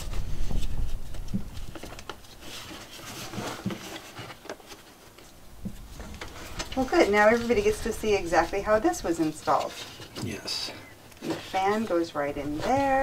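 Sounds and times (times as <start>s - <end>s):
plastic scuffing and rubbing: 0.0s - 13.0s.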